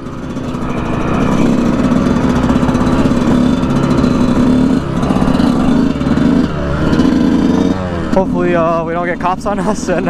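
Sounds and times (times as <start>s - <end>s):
dirt bike engines running: 0.0s - 10.0s.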